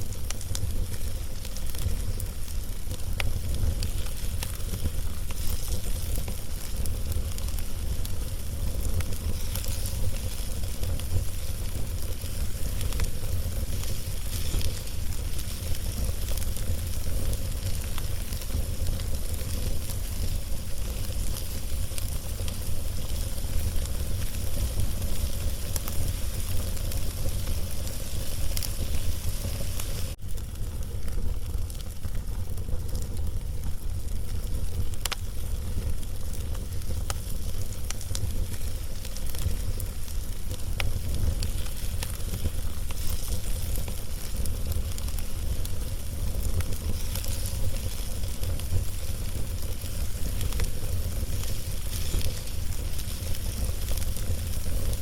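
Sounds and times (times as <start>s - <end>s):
steady hiss: 0.0s - 31.3s, 31.9s - 55.0s
wood fire crackling: 0.0s - 55.0s.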